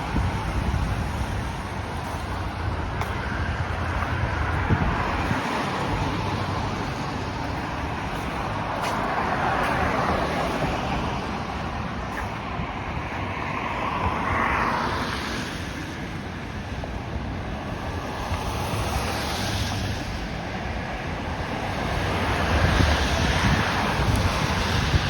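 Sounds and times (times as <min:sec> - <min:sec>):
passing cars: 0:00.0 - 0:25.0.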